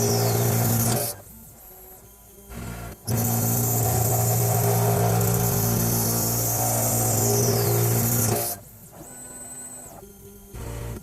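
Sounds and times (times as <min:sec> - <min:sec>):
cnc machine running: 0:00.0 - 0:11.0.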